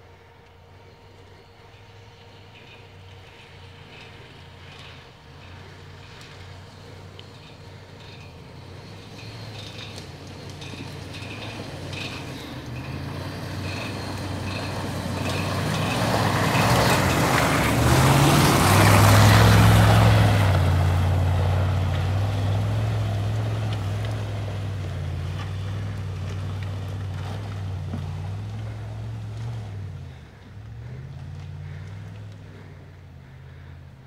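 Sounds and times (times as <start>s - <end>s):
car engine pulling uphill: 0.0s - 34.0s
tyres churning through mud: 1.3s - 34.0s.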